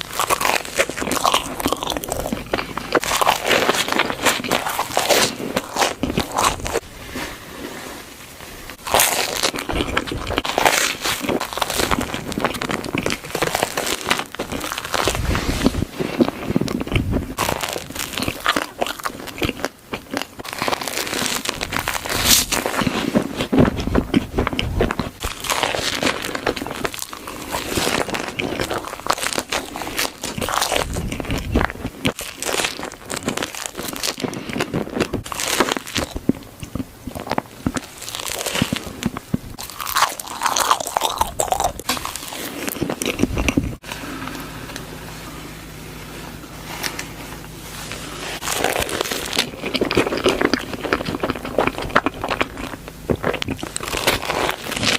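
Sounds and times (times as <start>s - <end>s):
crunching crisp food: 0.0s - 54.9s.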